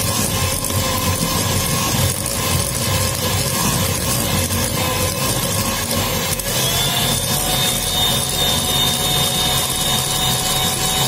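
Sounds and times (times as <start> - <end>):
electric hand mixer whining: 0.0 - 11.0.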